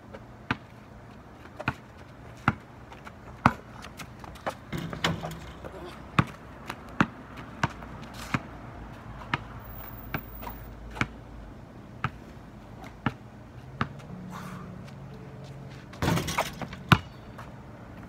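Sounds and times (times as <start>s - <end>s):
basketball bouncing on asphalt: 0.0s - 11.3s, 12.0s - 14.1s, 15.9s - 18.0s.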